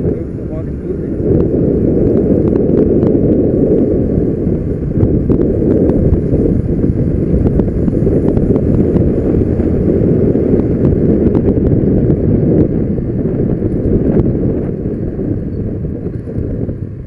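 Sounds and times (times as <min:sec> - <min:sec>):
motorcycle running: 0:00.0 - 0:17.0
wind buffeting microphone: 0:00.0 - 0:17.0.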